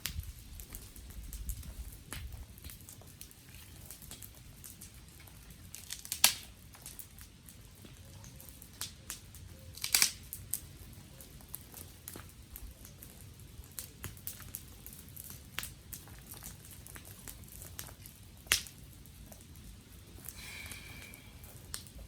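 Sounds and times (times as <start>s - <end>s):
sharp snaps of fire: 0.0s - 22.0s
wood fire crackling: 0.0s - 22.0s.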